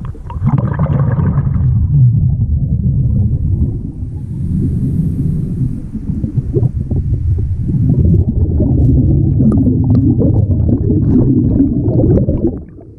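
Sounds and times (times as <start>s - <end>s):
air bubbles gurgling underwater: 0.0s - 12.9s
low water rumble: 0.0s - 12.9s.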